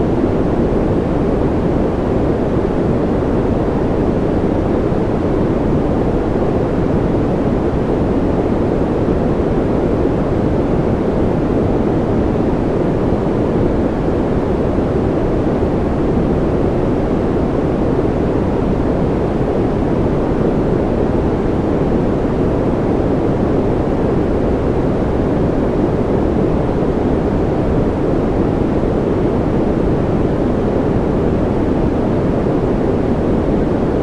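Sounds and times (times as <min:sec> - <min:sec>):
deep muffled white noise: 0:00.0 - 0:34.0.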